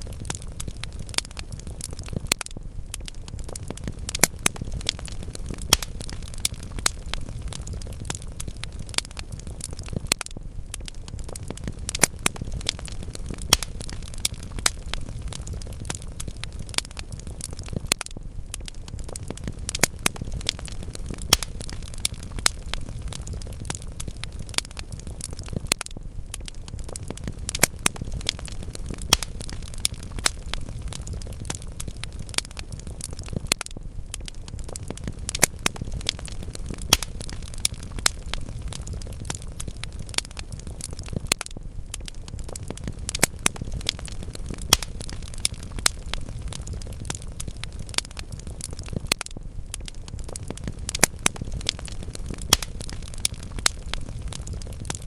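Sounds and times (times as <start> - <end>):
low rumble of flame: 0.0 - 55.0
sharp pops of burning wood: 0.0 - 55.0
wood logs crackling in fireplace: 0.0 - 55.0.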